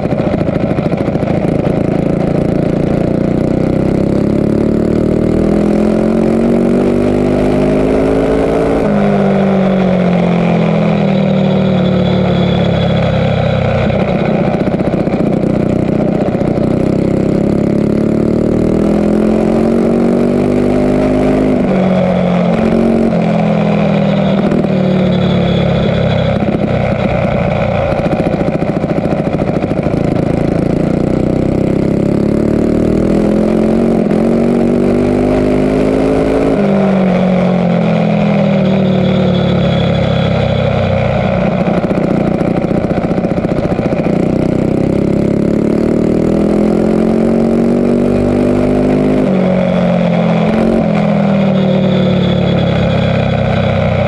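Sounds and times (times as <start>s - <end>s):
mini bike engine revving: 0.0s - 54.0s.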